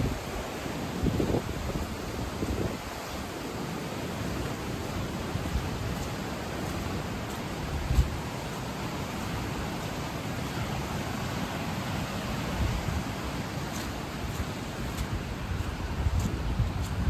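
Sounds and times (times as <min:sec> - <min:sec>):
flooded creek rushing: 0:00.0 - 0:17.0.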